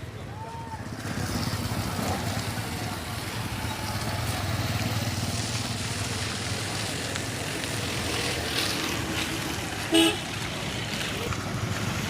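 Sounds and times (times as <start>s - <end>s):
engines rumbling: 0.0s - 12.0s
road noise: 0.0s - 12.0s.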